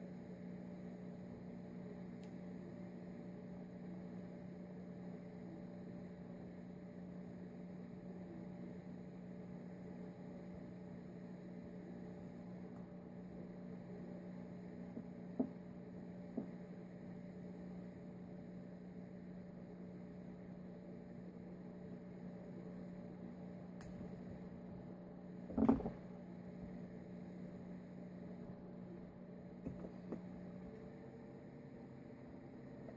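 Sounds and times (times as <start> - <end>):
low electrical hum: 0.0 - 32.9.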